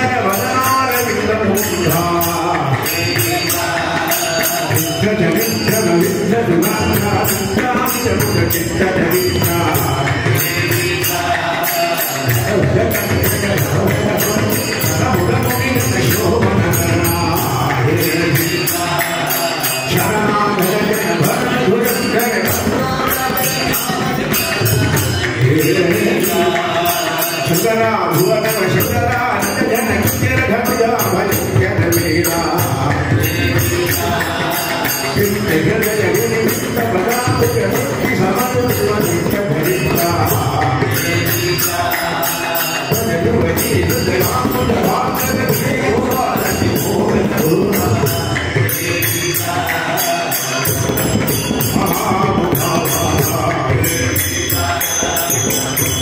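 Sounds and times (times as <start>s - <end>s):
hand cymbals clashing: 0.0s - 56.0s
men singing in unison: 0.0s - 56.0s.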